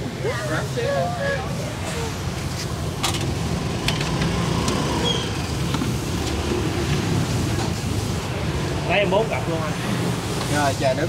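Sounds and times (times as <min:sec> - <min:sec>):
motorbike engines rumbling: 0:00.0 - 0:11.0
street traffic: 0:00.0 - 0:11.0.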